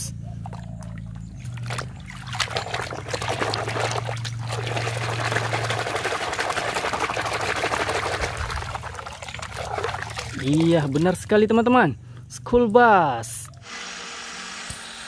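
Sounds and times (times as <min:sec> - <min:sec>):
water splashing and sloshing: 0:00.2 - 0:12.2.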